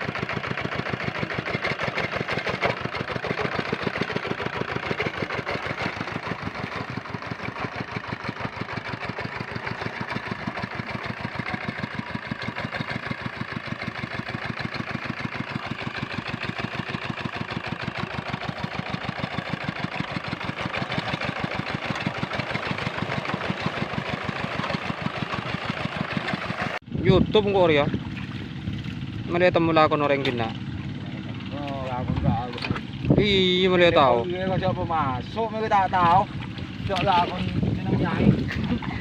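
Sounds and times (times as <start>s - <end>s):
diesel engine chugging: 0.0s - 39.0s.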